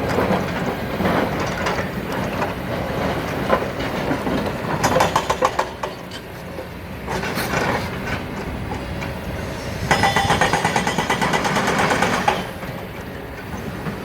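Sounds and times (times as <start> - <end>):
heavy machinery engine drone: 0.0 - 14.0.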